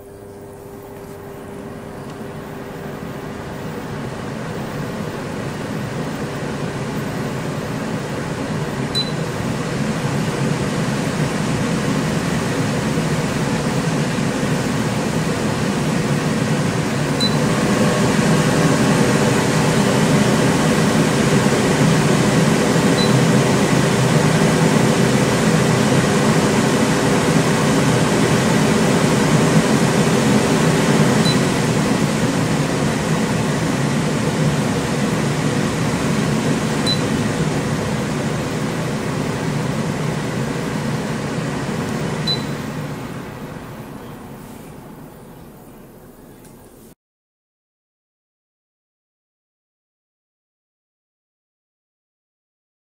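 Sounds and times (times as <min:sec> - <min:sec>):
extractor fan air rush: 0:00.0 - 0:47.0
faint motor hum: 0:00.0 - 0:47.0.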